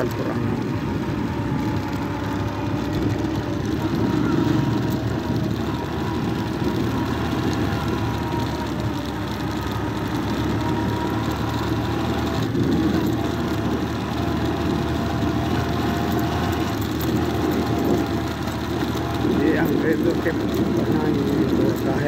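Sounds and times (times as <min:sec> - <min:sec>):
motorcycle engine drone: 0:00.0 - 0:22.0
road noise: 0:00.0 - 0:22.0.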